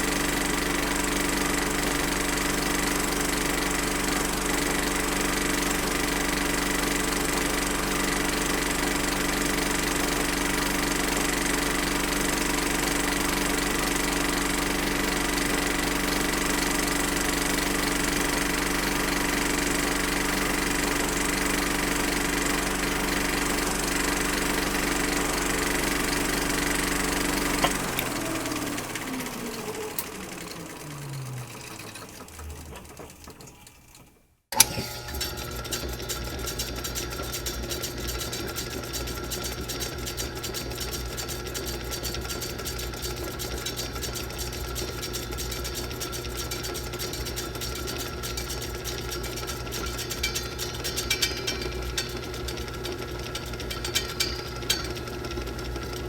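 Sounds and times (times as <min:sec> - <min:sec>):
film projector running: 0:00.0 - 0:33.6, 0:34.5 - 0:56.0.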